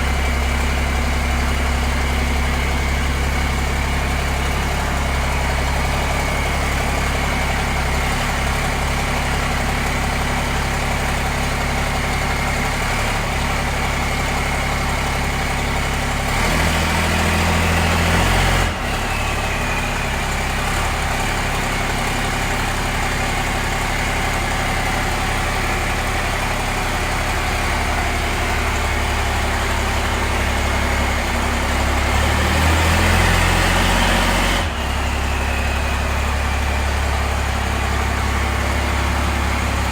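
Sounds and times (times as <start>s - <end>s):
pickup truck engine idling: 0.0s - 39.9s.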